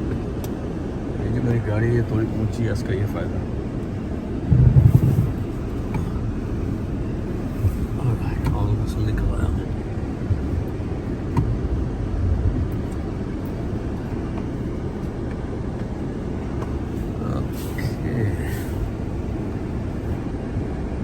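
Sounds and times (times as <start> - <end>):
car engine and tyres rumble: 0.0 - 21.0.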